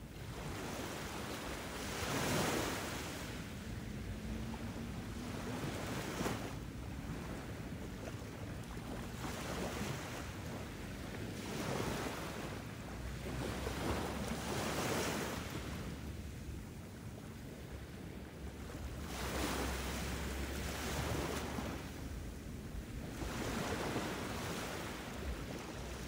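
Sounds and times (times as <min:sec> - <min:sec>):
ocean waves washing in: 0:00.0 - 0:26.0.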